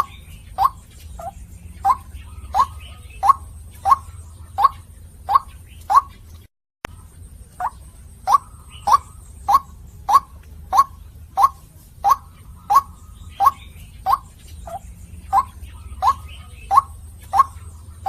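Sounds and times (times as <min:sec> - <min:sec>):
waterhen calling: 0:00.0 - 0:06.5, 0:07.5 - 0:18.0.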